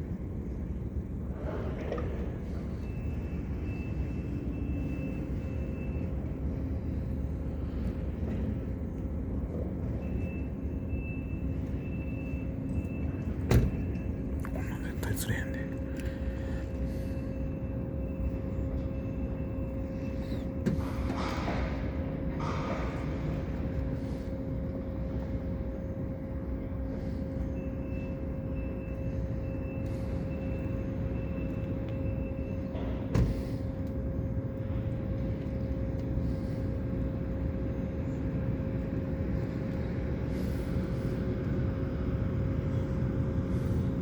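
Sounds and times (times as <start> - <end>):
low machine rumble: 0.0 - 44.0.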